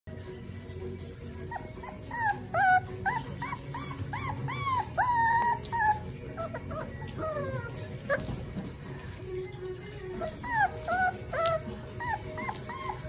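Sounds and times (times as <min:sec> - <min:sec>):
puppies whimpering: 0:00.8 - 0:13.0.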